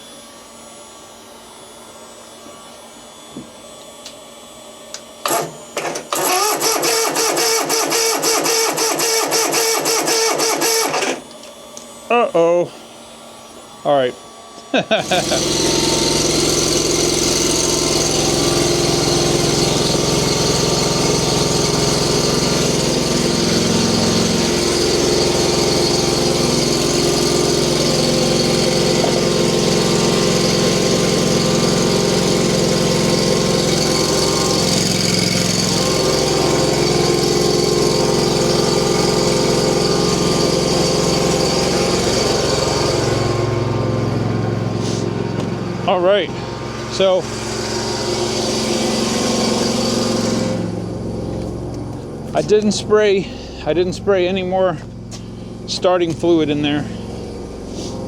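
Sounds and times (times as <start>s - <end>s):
lawn mower engine running: 5.2s - 11.8s, 14.9s - 58.0s.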